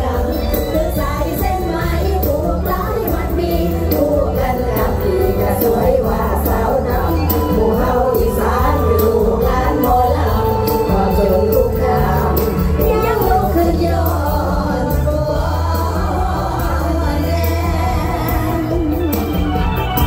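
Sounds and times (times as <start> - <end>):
bass line and beat: 0.0 - 20.0
live band music over sound system: 0.0 - 20.0
people singing: 0.0 - 20.0.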